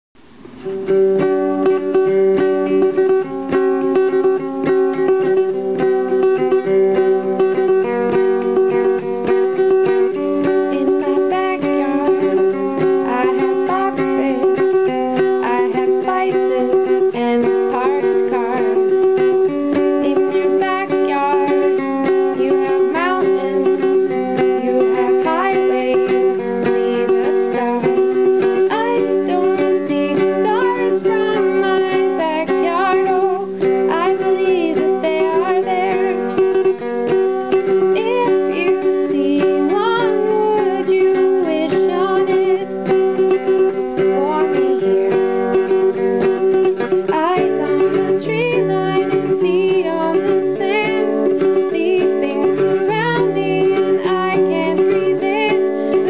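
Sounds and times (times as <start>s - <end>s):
plucked string instrument music: 0.2s - 56.0s.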